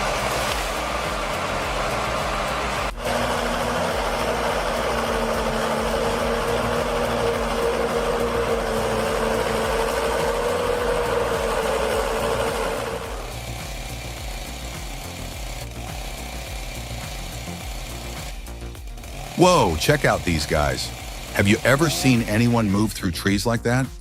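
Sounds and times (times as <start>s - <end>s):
heavy machine engine droning: 0.0s - 23.0s.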